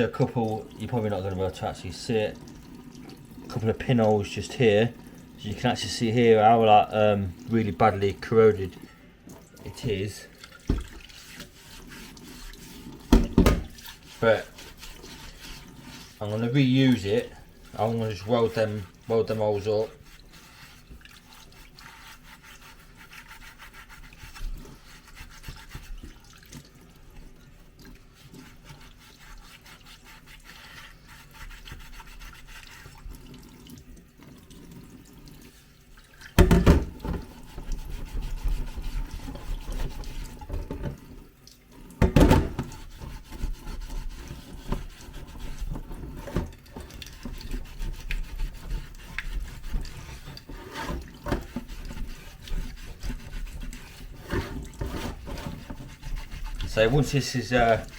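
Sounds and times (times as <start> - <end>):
handling and scrubbing: 0.0 - 57.9
water running and splashing in sink: 0.0 - 57.9.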